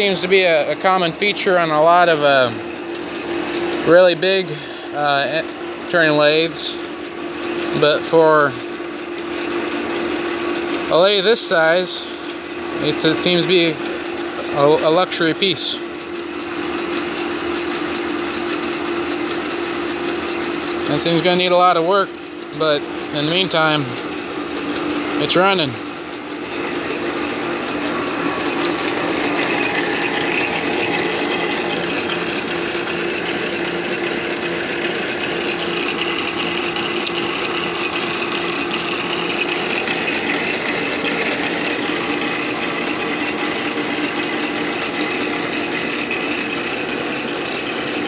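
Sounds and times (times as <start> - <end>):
lathe mechanical hum and whine: 0.0 - 48.0.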